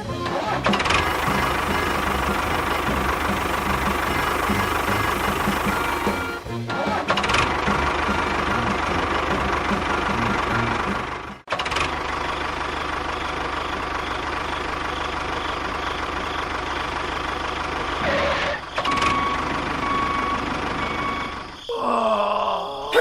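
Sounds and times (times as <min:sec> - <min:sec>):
engine running: 0:00.0 - 0:21.5.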